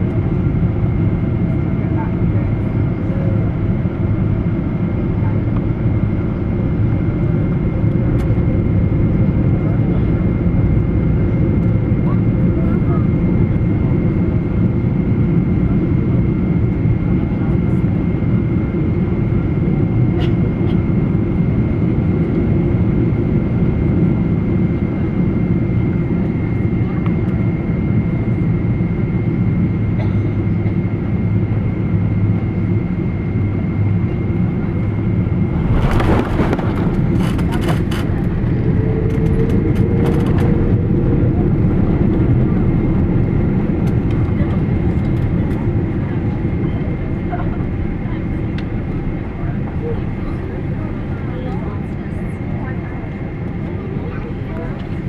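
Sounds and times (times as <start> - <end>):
aircraft engine and airflow rumble: 0.0 - 55.0.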